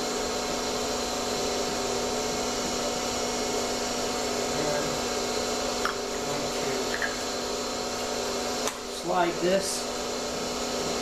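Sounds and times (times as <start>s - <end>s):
small electric motor humming: 0.0s - 11.0s.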